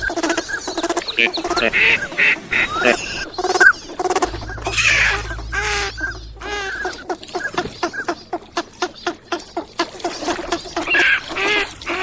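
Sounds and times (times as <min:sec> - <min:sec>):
wild ducks calling: 0:00.0 - 0:12.0.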